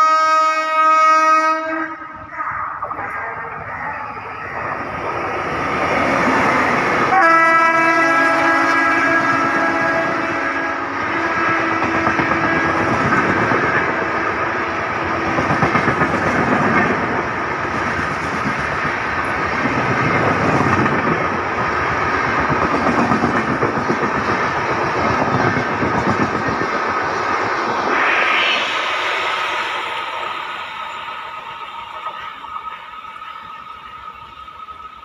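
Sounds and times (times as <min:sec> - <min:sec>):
train passing at high speed: 0:00.0 - 0:35.0.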